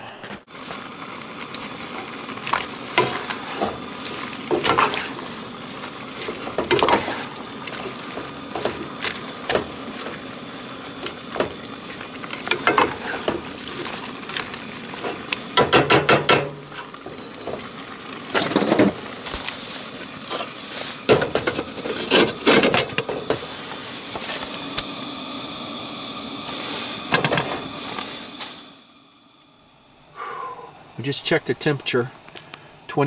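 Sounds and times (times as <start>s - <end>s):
stew hissing: 0.0s - 28.8s, 30.0s - 31.1s.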